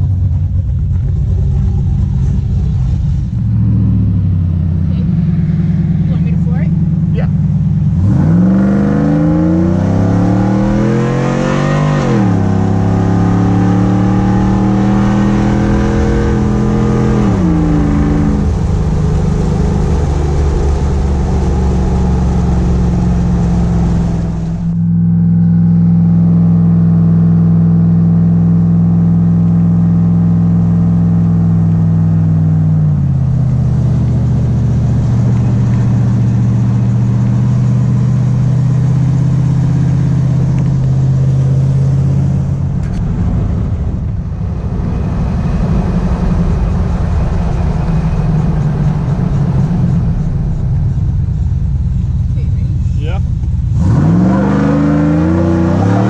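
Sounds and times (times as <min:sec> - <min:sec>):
truck engine accelerating through gears: 0:00.0 - 0:56.0.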